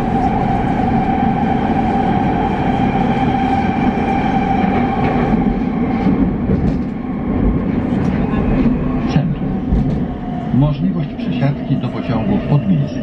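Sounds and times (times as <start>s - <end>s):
metro train rumble and whine: 0.0s - 13.0s.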